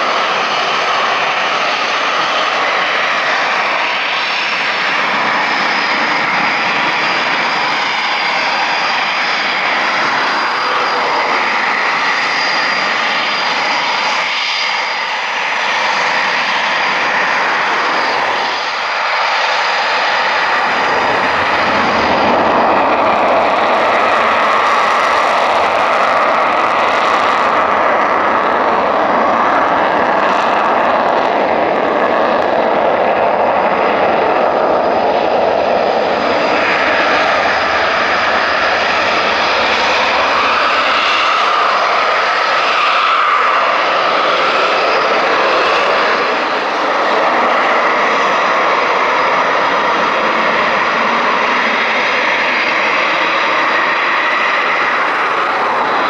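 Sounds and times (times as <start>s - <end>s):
high whine: 0.0s - 32.4s, 43.4s - 56.0s
jet engines running: 0.0s - 56.0s.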